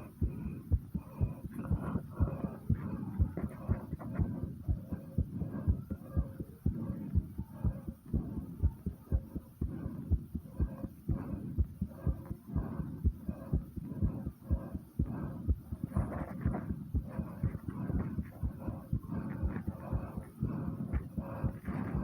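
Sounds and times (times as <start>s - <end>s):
fast pounding heartbeat: 0.0s - 22.0s.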